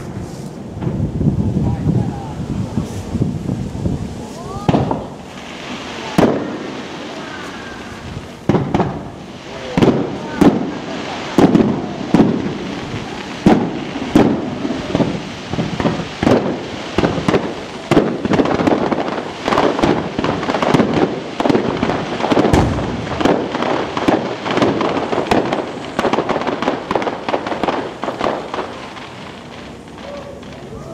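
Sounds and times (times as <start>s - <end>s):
fireworks bursting with bangs: 0.0s - 30.9s
fireworks crackling: 0.0s - 30.9s.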